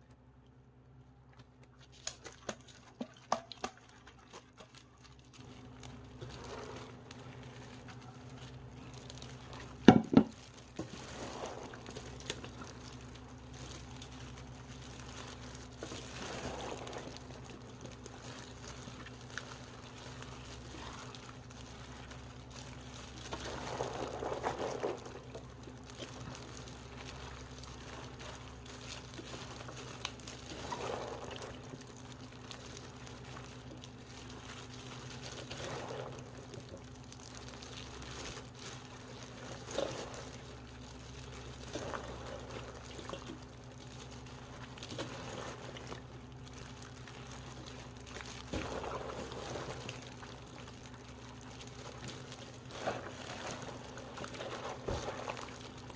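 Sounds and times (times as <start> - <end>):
steady low hum: 0.0 - 55.9
wet splashing of greens by hand: 1.7 - 55.9.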